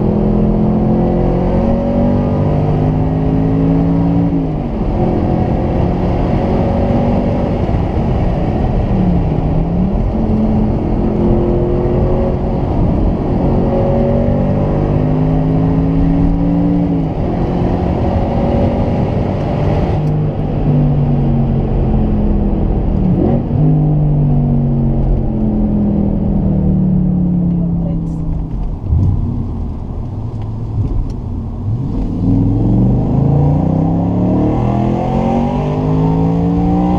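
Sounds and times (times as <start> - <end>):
car engine accelerating: 0.0 - 36.9.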